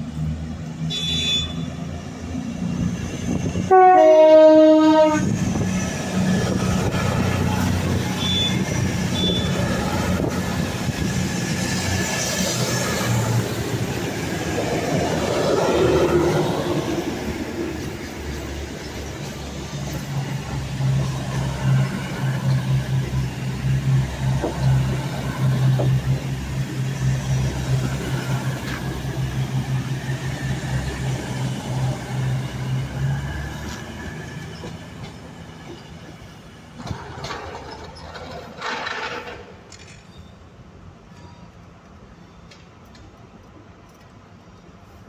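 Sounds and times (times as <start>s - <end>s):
train carriages rumbling: 1.6s - 43.8s.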